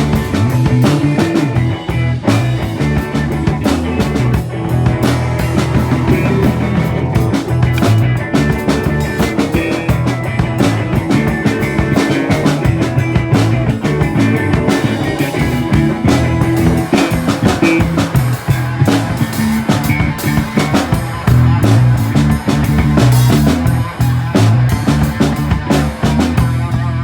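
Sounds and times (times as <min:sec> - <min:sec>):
bass guitar: 0:00.0 - 0:27.0
drum kit hits: 0:00.0 - 0:27.0
electric guitar: 0:00.0 - 0:27.0.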